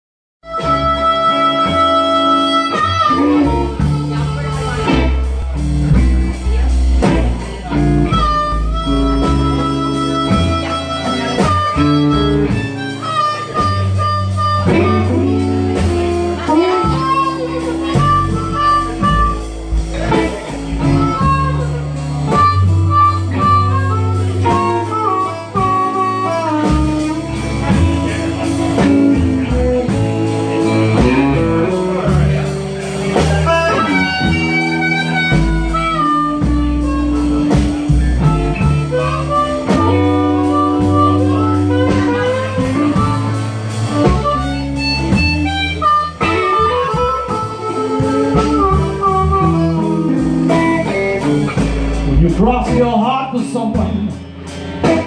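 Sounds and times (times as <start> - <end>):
amplified harmonica: 0.4 - 53.2
drums: 0.4 - 55.0
electric guitar: 0.4 - 55.0
walking upright bass: 0.4 - 55.0.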